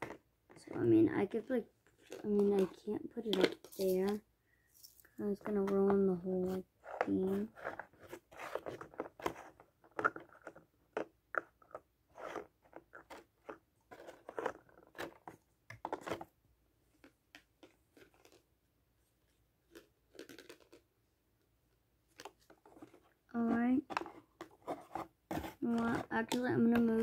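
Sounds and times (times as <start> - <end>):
plastic toys crinkling and clicking: 0.0 - 16.3, 16.9 - 18.5, 19.6 - 20.9, 22.1 - 24.7.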